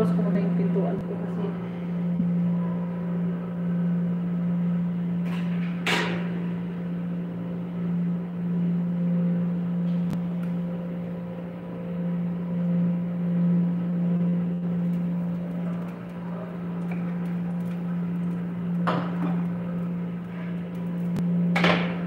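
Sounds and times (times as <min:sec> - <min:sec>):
range hood fan humming: 0:00.0 - 0:22.0.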